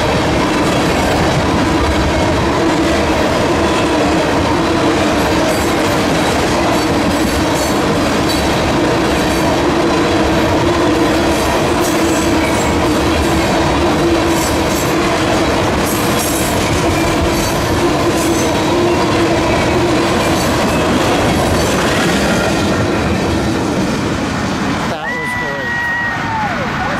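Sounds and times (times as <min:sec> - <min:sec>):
wheels clickety-clack on rail joints: 0:00.0 - 0:24.9
train wheels rumbling on rail: 0:00.0 - 0:26.9.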